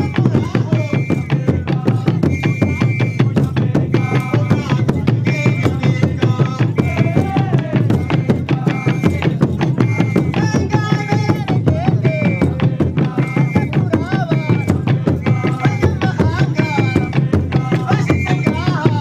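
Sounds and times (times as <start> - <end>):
fast steady drumming: 0.0 - 19.0.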